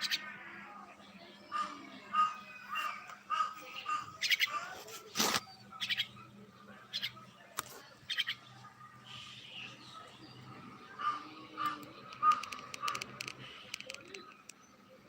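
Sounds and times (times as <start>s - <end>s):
birds whistling and chattering: 0.0s - 15.0s.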